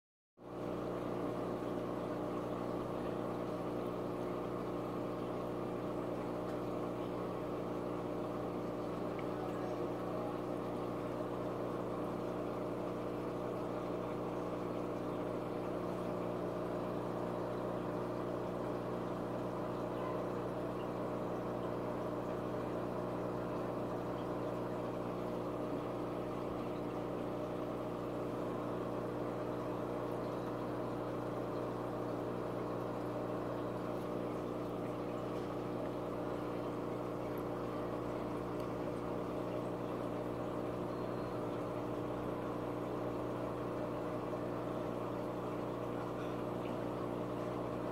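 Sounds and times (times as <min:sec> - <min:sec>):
aquarium pump humming: 0:00.4 - 0:47.9.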